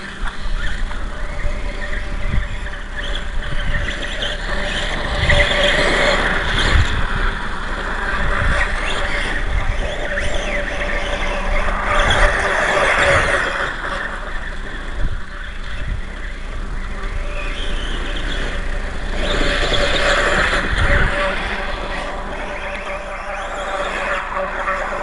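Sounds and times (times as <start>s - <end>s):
small motor whine: 0.0s - 25.0s
steady hiss: 0.0s - 25.0s
wind gusting on microphone: 0.0s - 25.0s.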